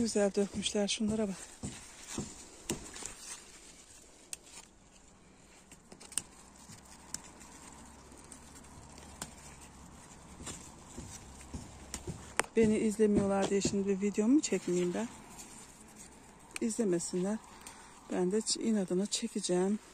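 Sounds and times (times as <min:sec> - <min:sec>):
leaves rustling: 0:00.0 - 0:19.9.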